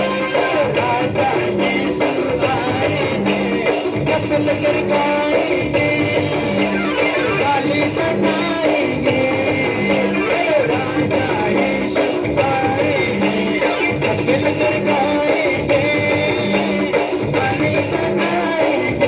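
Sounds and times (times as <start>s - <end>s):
electronic keyboard accompaniment: 0.0s - 19.0s
man singing into a microphone: 0.0s - 19.0s.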